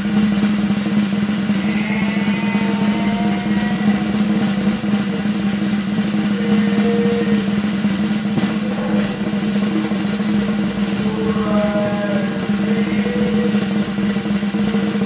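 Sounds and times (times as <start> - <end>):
steady low hum: 2.9 - 15.0.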